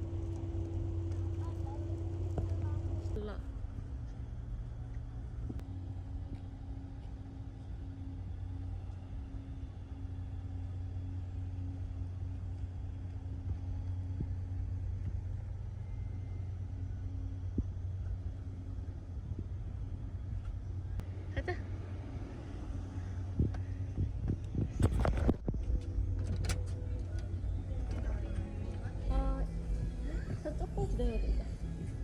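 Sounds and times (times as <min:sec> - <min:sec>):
faint steady hum: 0:00.0 - 0:32.0
vehicle rumbling: 0:00.0 - 0:32.0.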